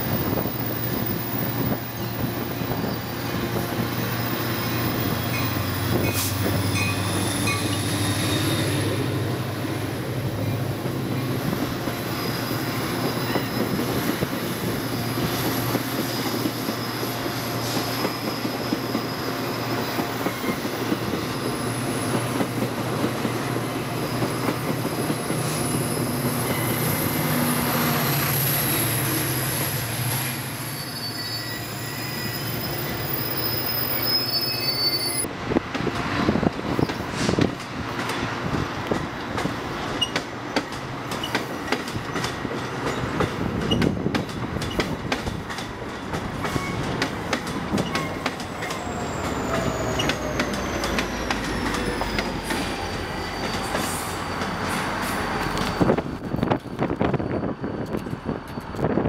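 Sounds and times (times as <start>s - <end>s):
train wheels squealing: 0.0s - 9.3s, 10.4s - 35.3s, 39.8s - 45.0s, 46.0s - 59.0s
train rumbling past: 0.0s - 59.0s.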